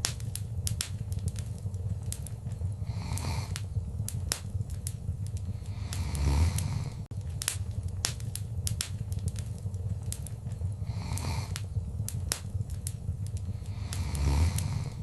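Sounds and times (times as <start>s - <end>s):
fire hissing: 0.0s - 15.0s
wood fire crackling: 0.0s - 15.0s.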